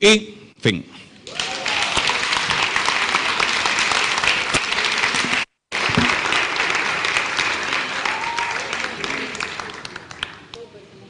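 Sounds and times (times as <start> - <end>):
audience applauding: 1.2 - 10.7.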